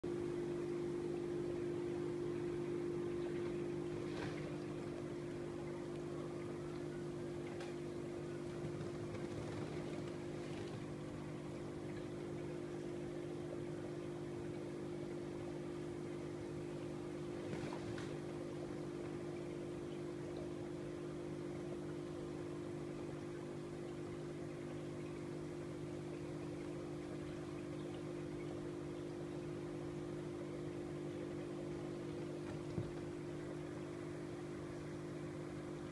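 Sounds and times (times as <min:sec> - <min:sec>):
aquarium pump humming: 0:00.0 - 0:35.9.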